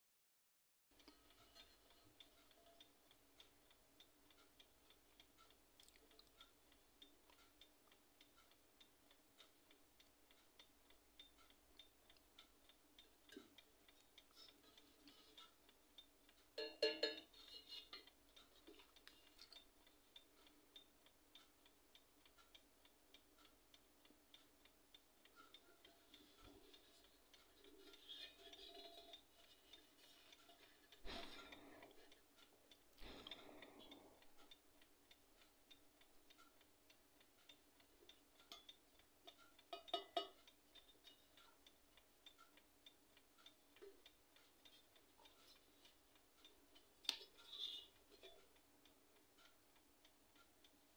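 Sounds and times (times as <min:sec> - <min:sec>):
faint steady ticking: 0:00.9 - 0:50.9.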